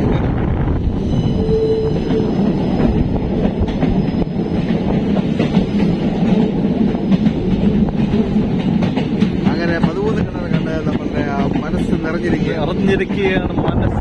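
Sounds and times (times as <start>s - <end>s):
train wheels rumbling on rails: 0.0s - 14.0s
faint rail clacks: 2.0s - 13.8s.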